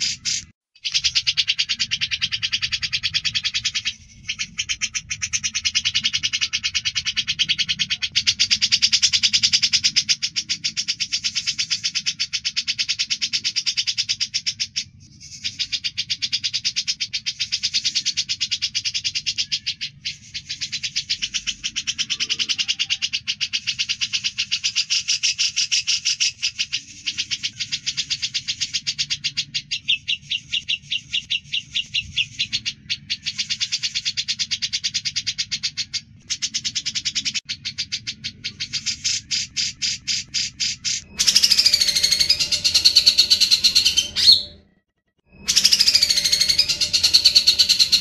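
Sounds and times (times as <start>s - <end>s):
bird rattling song: 0.0s - 44.6s, 45.3s - 48.0s.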